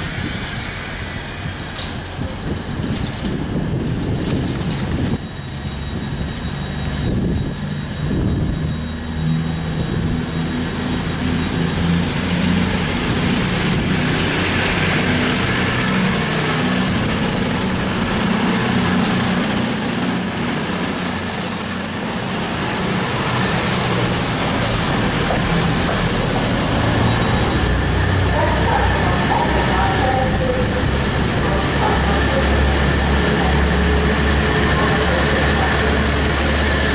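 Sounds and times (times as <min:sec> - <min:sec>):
diesel train engine running: 0:00.0 - 0:36.9
high engine whine: 0:00.0 - 0:36.9.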